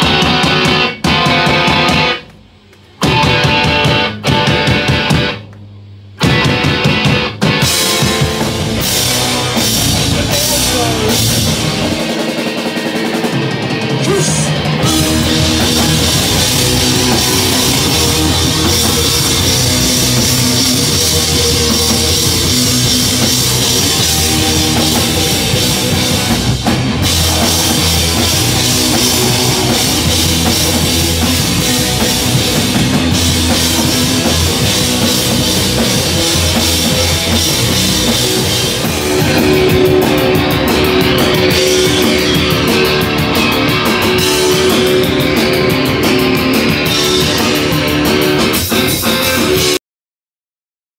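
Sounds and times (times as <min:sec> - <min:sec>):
live rock band playing: 0:00.0 - 0:49.8.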